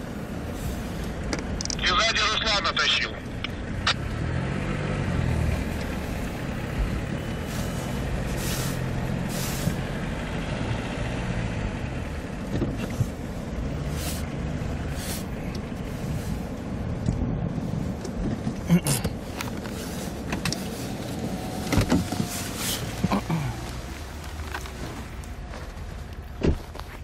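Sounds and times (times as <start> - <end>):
vehicle engine running at low revs: 0.0 - 27.0.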